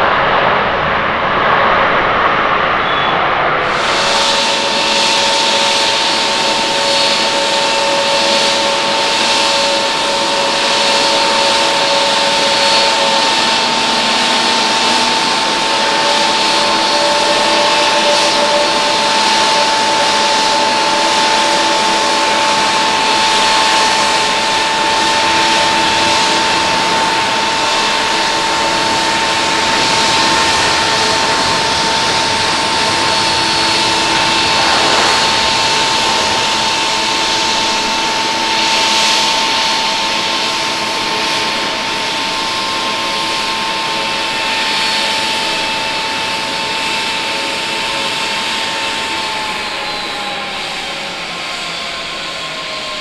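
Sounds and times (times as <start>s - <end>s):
jet engines at takeoff: 0.0s - 53.0s.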